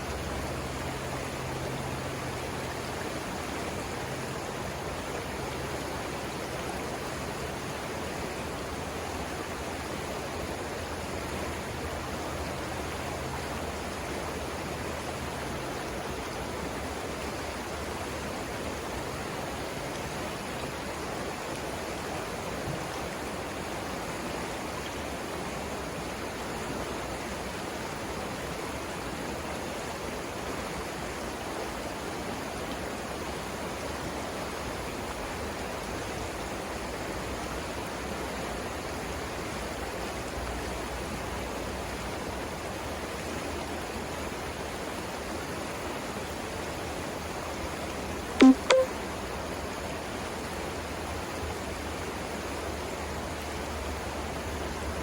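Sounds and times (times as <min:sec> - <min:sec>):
river water rushing over rapids: 0:00.0 - 0:48.2.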